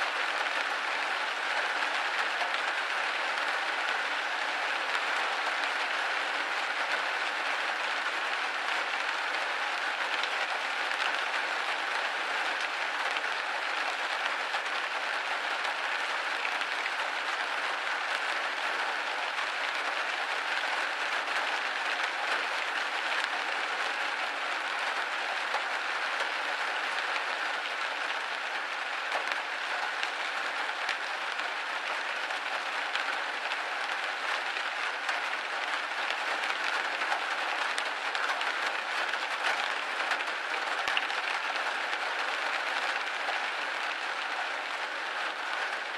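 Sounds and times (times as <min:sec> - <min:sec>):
rain pattering on window: 0:00.0 - 0:45.9.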